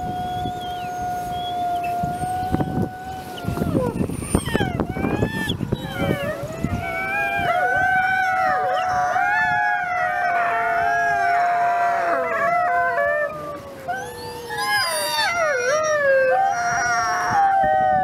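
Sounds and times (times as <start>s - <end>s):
wolves howling in chorus: 0.0s - 18.0s.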